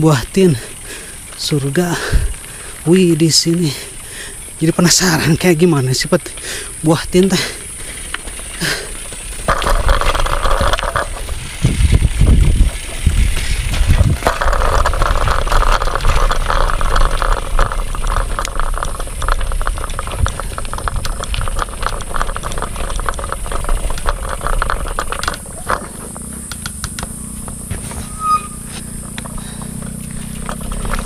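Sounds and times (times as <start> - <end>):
bicycle rattling over rough road: 0.0 - 31.0
wind rumbling on microphone: 1.6 - 3.4, 7.7 - 31.0.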